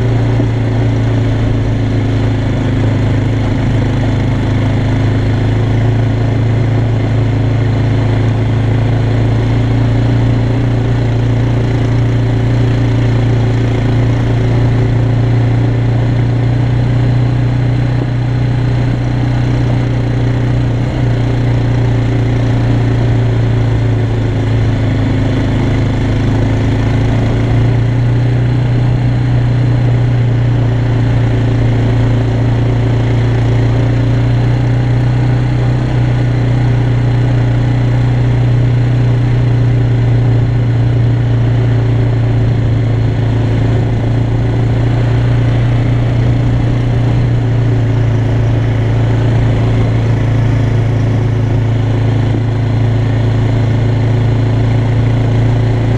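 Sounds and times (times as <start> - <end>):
quad engine running: 0.0 - 55.9.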